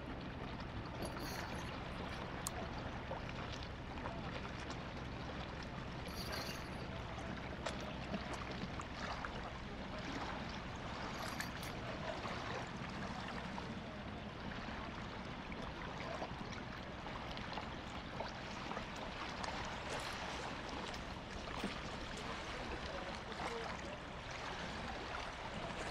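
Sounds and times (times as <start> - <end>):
low steady hum: 0.0 - 25.9
water splashing and trickling: 0.0 - 25.9.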